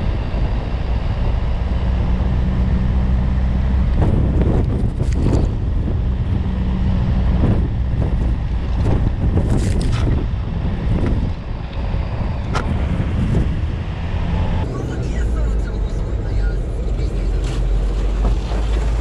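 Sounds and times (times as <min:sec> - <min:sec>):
car engine pulling: 0:00.0 - 0:19.0
wind buffeting microphone: 0:00.0 - 0:19.0.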